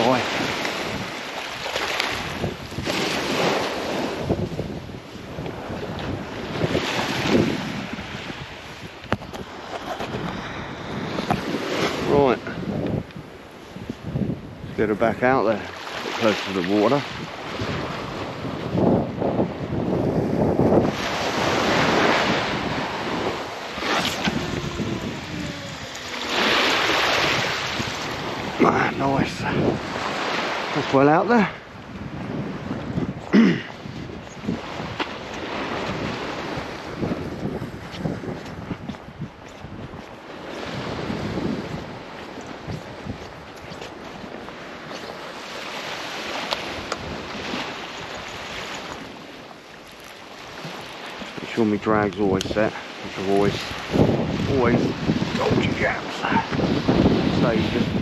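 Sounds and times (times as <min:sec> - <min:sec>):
waves breaking on beach: 0:00.0 - 0:58.0
wind buffeting microphone: 0:00.0 - 0:58.0.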